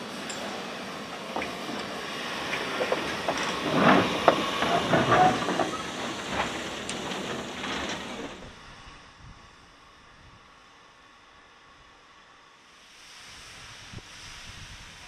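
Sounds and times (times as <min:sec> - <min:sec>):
hissing steam: 0:00.0 - 0:10.7, 0:12.3 - 0:15.0
steam locomotive passing: 0:00.0 - 0:15.0.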